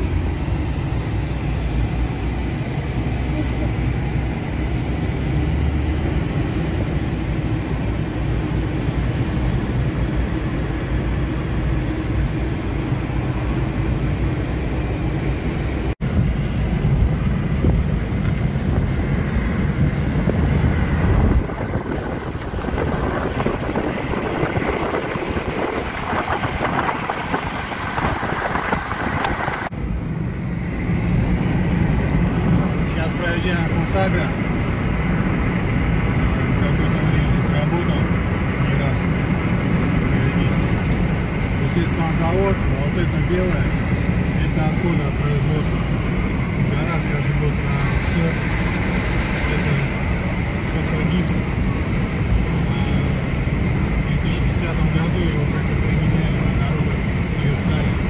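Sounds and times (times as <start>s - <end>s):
road and engine noise in car: 0.0s - 58.0s
wind rushing past car: 0.0s - 58.0s.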